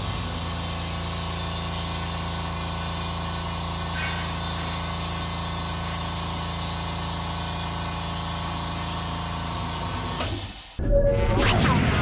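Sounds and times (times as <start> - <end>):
air compressor motor humming: 0.0 - 10.2.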